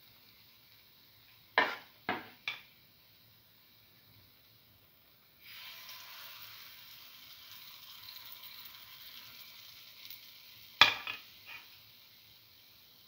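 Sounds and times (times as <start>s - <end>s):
batter sizzling in pan: 0.0s - 13.0s.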